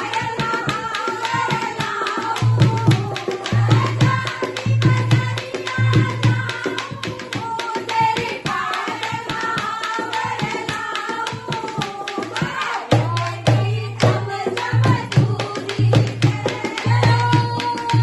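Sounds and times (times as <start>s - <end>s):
hand drum beat: 0.0s - 18.0s.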